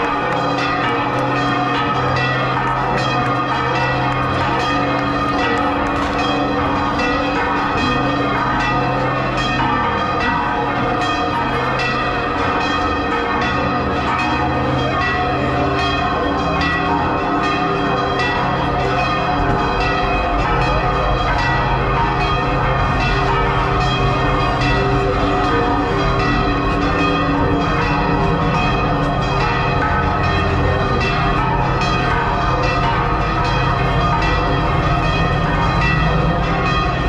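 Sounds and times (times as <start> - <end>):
church bells pealing: 0.0 - 37.0.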